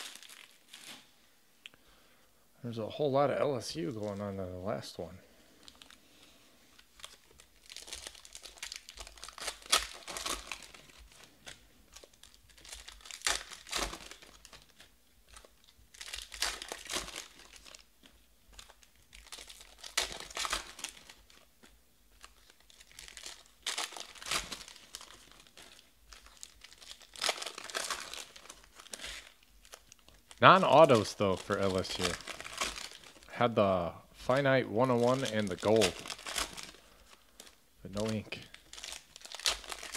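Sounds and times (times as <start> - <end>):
foil wrappers tearing and crinkling: 0.0 - 1.2, 6.8 - 33.3, 34.3 - 39.9.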